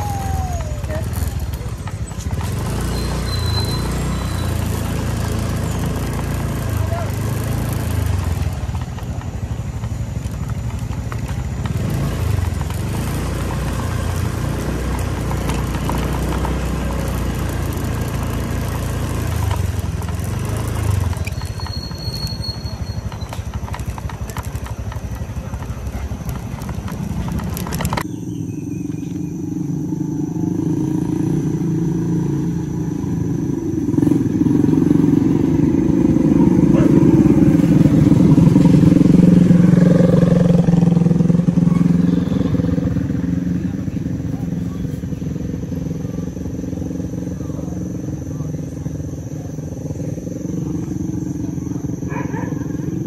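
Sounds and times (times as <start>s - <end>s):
motorcycle approaching: 0.0s - 53.0s
motorcycle engine running: 0.0s - 53.0s.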